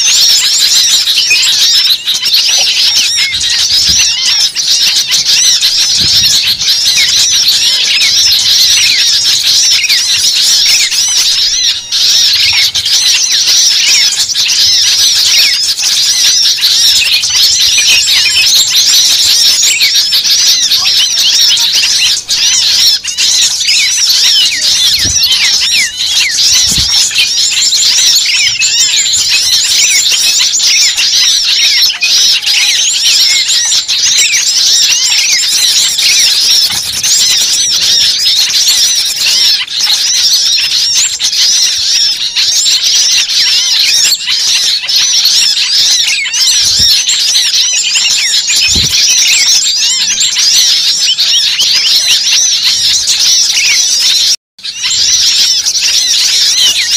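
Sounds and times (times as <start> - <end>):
many small birds chirping: 0.0 - 56.9.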